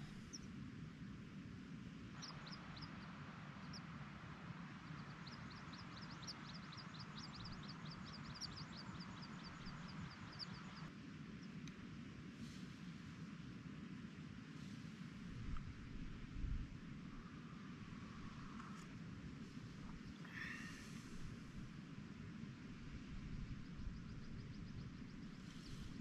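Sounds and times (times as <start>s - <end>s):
low steady rumble: 0.0s - 26.0s
soft hiss: 2.2s - 26.0s.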